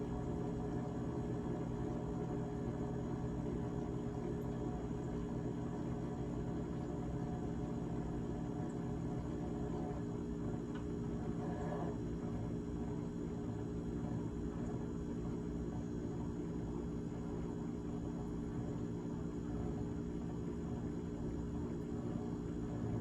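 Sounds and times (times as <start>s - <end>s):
refrigerator humming: 0.0s - 23.0s.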